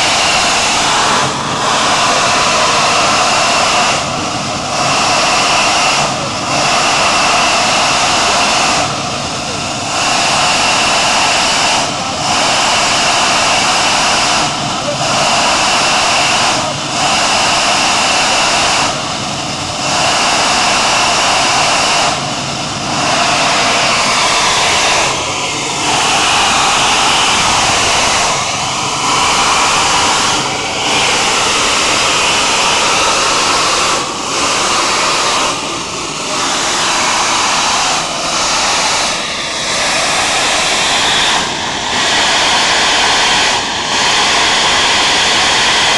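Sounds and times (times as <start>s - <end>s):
gas hissing from a leak: 0.0s - 45.9s.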